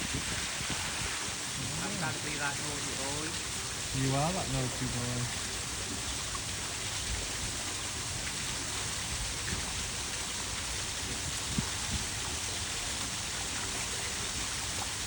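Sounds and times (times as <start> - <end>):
waterfall splashing into pool: 0.0 - 15.0.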